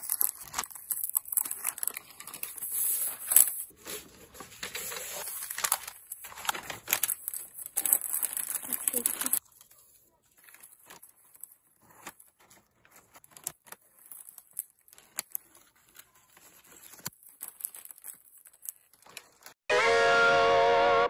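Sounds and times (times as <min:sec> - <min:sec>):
gift wrap crinkling: 0:00.0 - 0:19.6.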